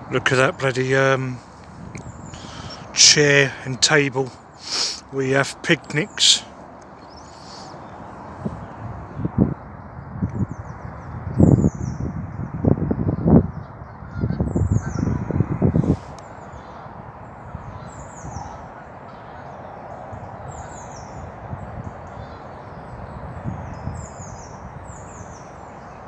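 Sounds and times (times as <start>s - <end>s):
wind rumbling on microphone: 0.0s - 4.8s, 6.0s - 26.0s
steady outdoor hiss: 0.0s - 26.0s.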